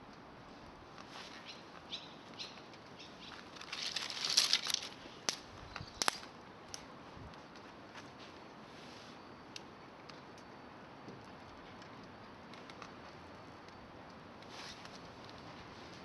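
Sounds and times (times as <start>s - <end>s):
twig fire crackling: 0.2s - 10.6s, 11.2s - 16.0s.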